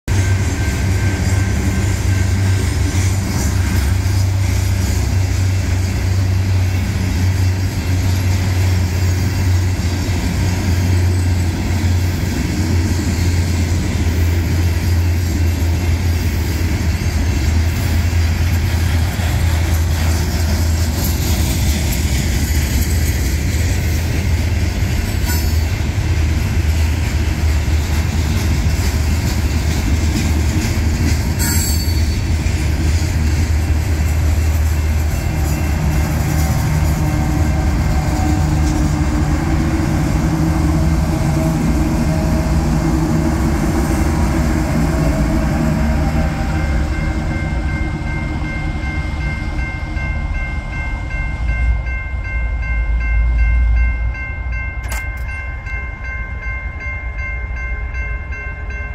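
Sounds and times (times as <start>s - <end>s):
freight train wheels rumbling on rails: 0.0s - 58.9s.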